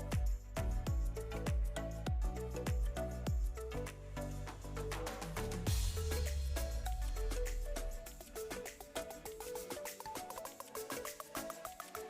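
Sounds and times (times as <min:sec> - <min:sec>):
music with a steady beat: 0:00.0 - 0:12.0.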